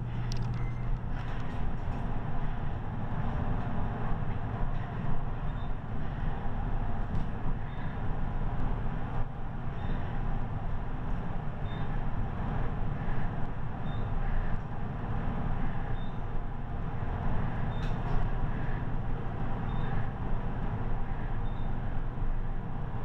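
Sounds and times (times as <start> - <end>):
elevator running rumble: 0.0 - 23.0.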